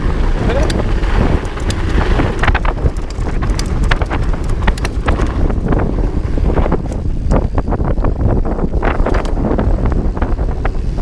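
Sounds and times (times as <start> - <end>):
bike clattering over bumps: 0.0 - 11.0
wind buffeting microphone: 0.0 - 11.0.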